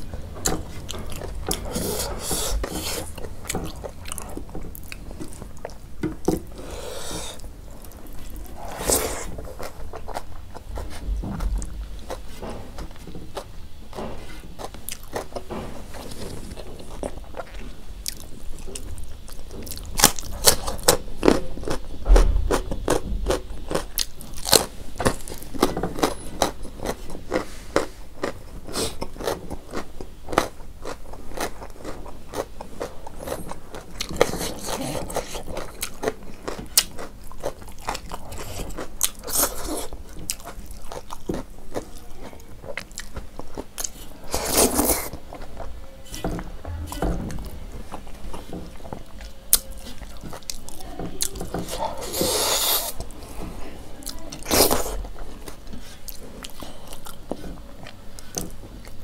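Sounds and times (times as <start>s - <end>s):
crunchy chewing: 0.0s - 46.6s, 47.4s - 59.0s.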